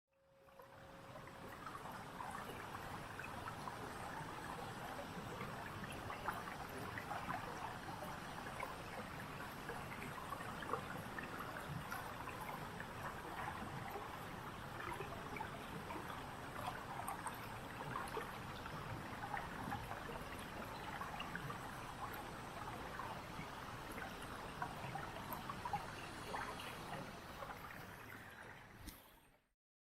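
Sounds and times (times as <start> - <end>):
waterfall trickling and splashing: 0.8 - 29.0.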